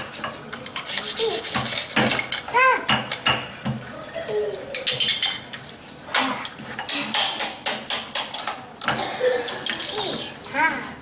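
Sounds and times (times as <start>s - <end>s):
kitchen utensils and dishes clattering: 0.0s - 10.4s.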